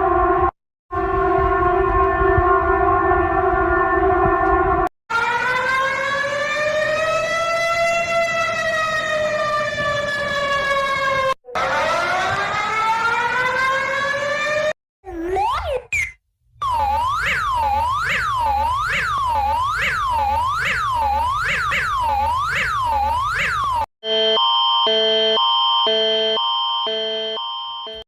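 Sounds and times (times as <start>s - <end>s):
outdoor warning siren: 0.0s - 14.8s, 16.6s - 28.0s.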